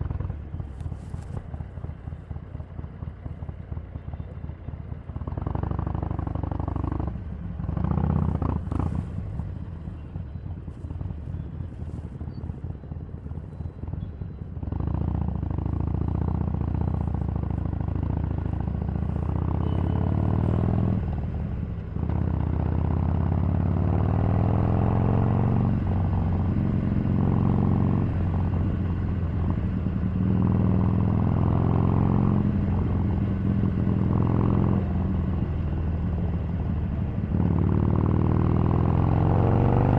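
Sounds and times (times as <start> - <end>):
motorcycle engine revving: 5.1 - 35.7, 36.3 - 39.9.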